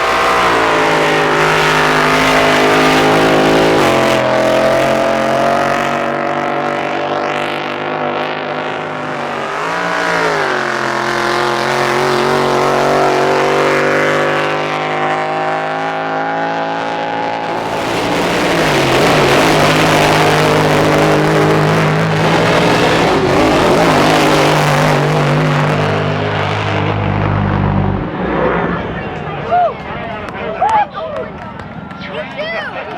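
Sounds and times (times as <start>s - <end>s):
drag boat engine running: 0.0s - 30.3s.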